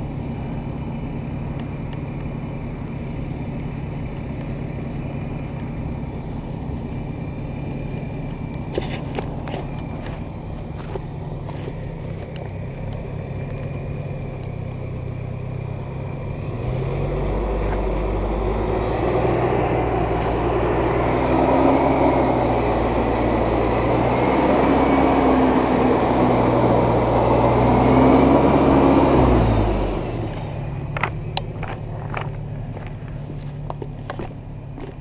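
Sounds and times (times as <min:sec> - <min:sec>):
off-road vehicle engine running: 0:00.0 - 0:35.0.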